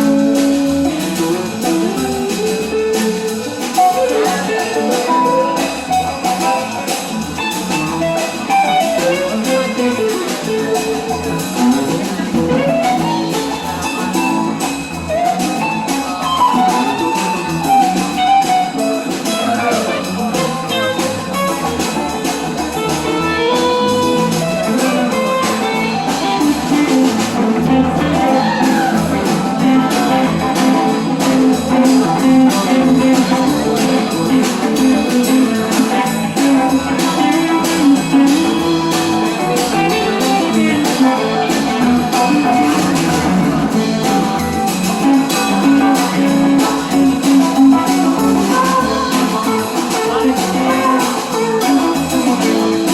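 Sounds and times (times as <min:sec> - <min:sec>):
guitar: 0:00.0 - 0:52.9
live band playing: 0:00.0 - 0:52.9.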